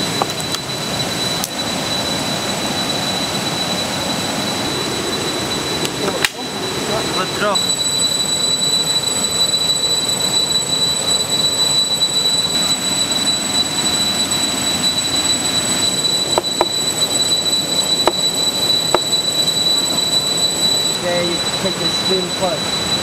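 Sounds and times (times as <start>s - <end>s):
cicadas droning: 0.0s - 23.0s.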